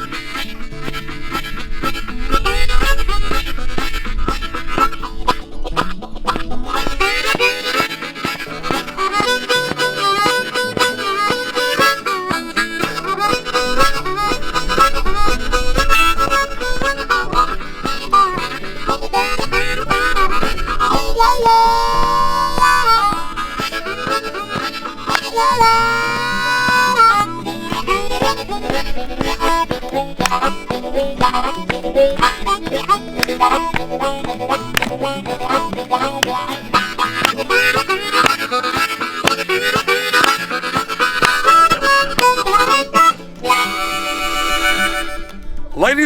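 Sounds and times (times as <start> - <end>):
blues harmonica melody: 0.0 - 46.0.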